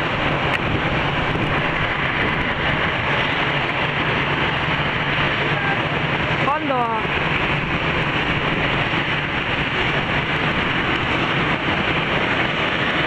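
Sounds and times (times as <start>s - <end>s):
jet airliner roar: 0.0s - 13.0s.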